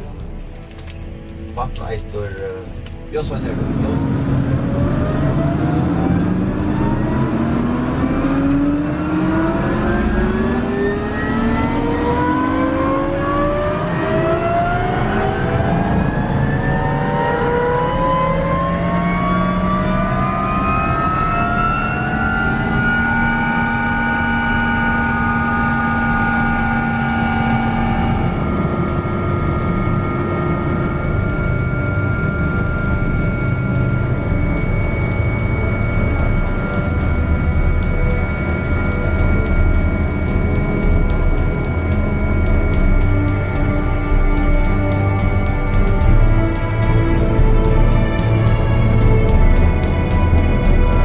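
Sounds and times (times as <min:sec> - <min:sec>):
helicopter turbine whine: 0:00.0 - 0:51.0.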